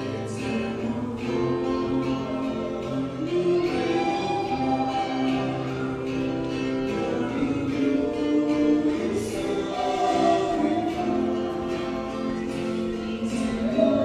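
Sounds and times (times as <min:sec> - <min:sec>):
voices singing a hymn: 0:00.0 - 0:14.0.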